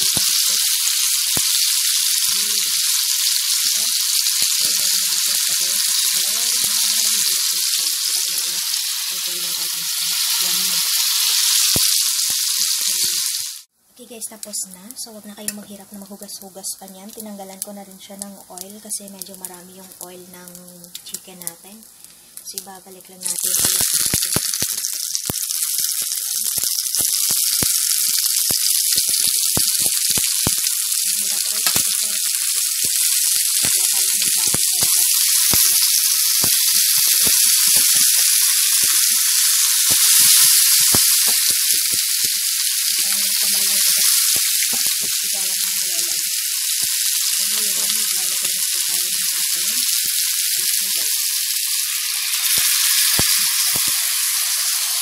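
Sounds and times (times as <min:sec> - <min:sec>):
chicken sizzling in hot oil: 0:00.0 - 0:13.7, 0:17.1 - 0:55.0
oil popping and crackling: 0:00.0 - 0:13.7, 0:17.0 - 0:55.0.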